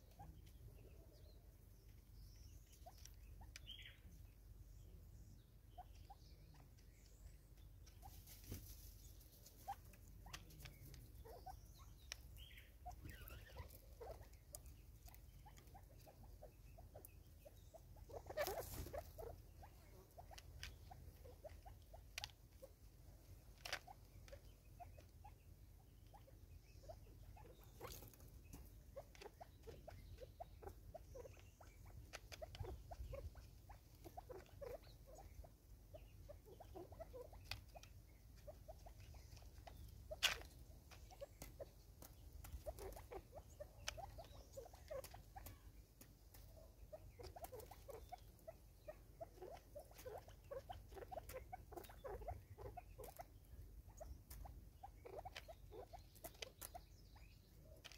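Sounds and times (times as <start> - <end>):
rustle: 0.0 - 57.9.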